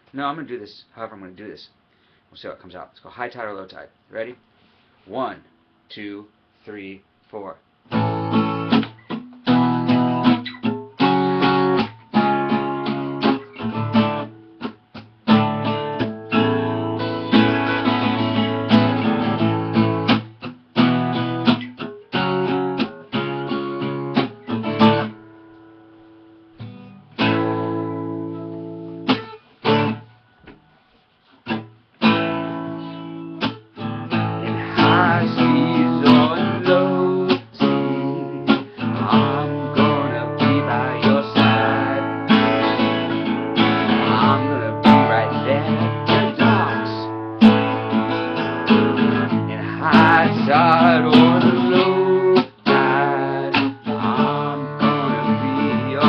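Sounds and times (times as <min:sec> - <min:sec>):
acoustic guitar strumming: 0:07.9 - 0:56.0.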